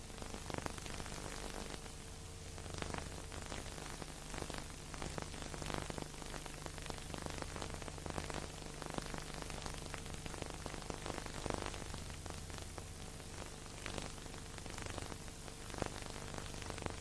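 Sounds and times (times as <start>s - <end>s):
film soundtrack hiss and crackle: 0.0s - 17.0s.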